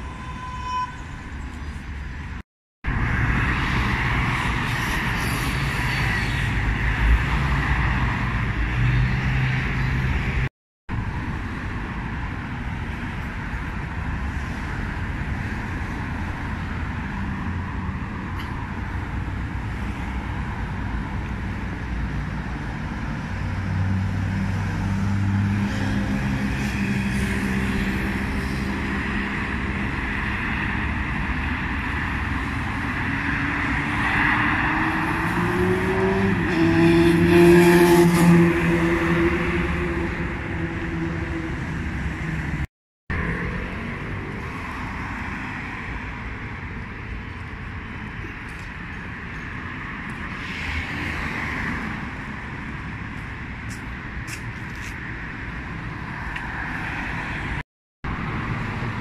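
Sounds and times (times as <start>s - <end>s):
cars passing close by: 2.9s - 10.5s, 11.1s - 59.0s.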